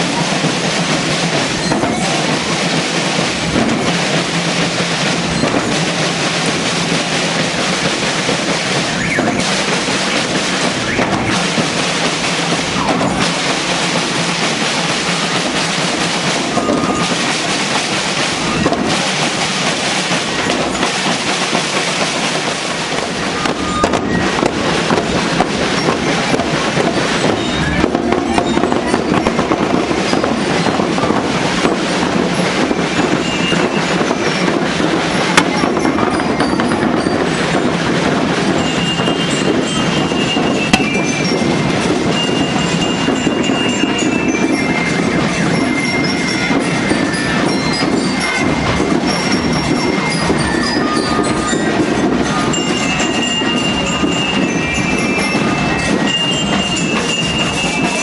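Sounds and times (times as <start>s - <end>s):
marching band drums: 0.0s - 58.0s.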